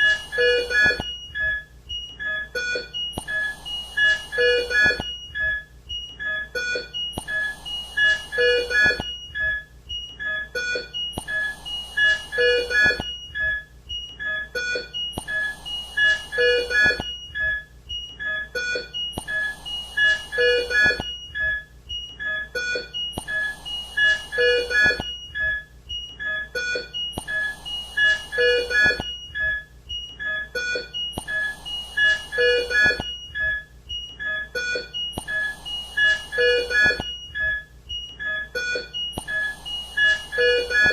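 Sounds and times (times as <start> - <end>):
rapid electronic beeps: 0.0 - 40.9.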